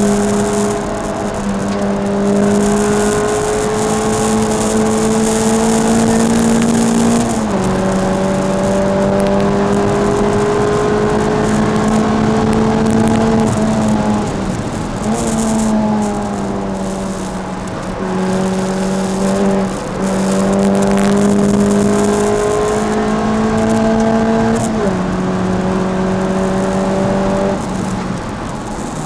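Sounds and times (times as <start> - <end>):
car engine revving: 0.0 - 29.0
road and wind noise: 0.0 - 29.0.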